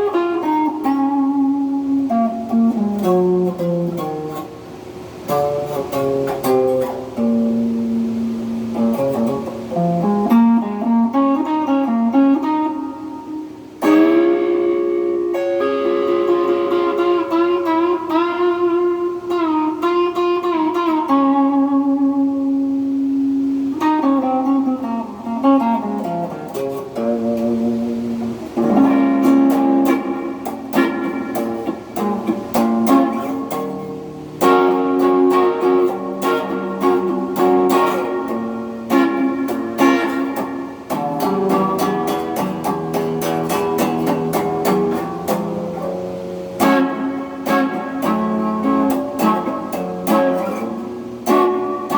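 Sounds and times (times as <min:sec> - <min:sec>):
electric guitar playing: 0:00.0 - 0:51.9.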